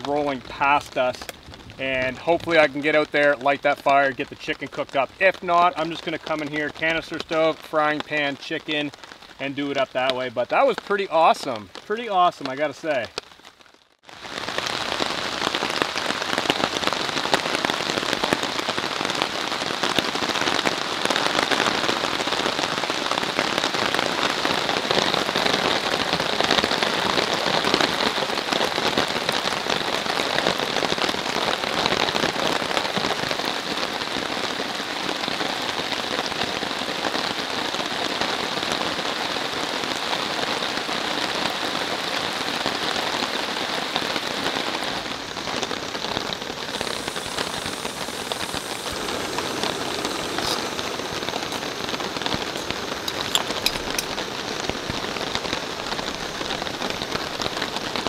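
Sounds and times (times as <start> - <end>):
rain on a tarp: 0.0 - 58.0.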